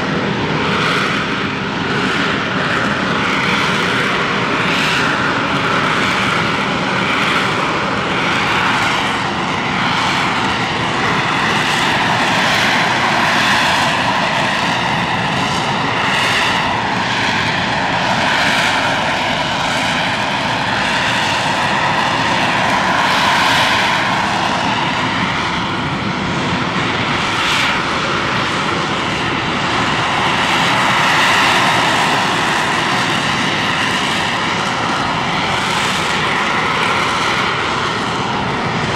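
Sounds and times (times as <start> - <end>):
jet engine roaring with whine: 0.0 - 38.9.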